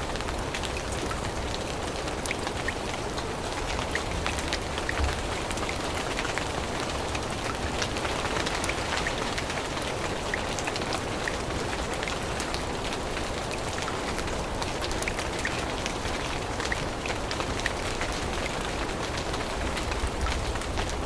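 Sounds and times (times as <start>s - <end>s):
raindrops ticking close by: 0.0s - 21.0s
steady rain: 0.0s - 21.0s.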